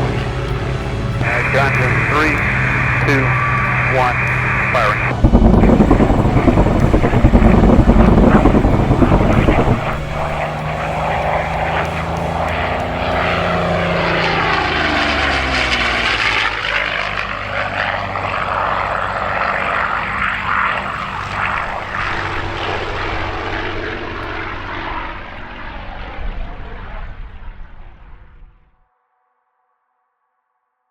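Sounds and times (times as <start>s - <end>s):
propeller plane passing by: 0.0s - 28.7s.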